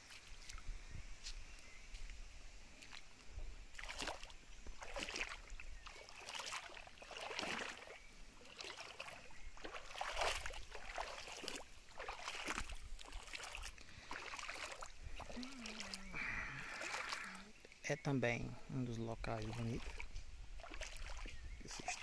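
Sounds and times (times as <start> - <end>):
creek water sloshing: 0.0 - 22.0.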